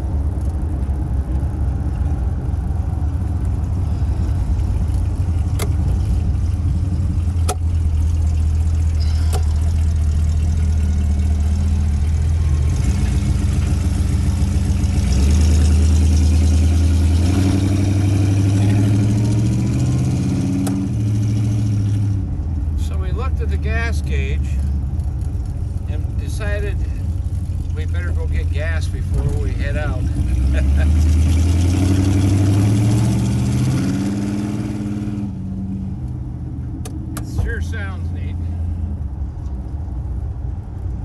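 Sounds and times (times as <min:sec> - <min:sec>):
car engine exhaust rumble: 0:00.0 - 0:41.0.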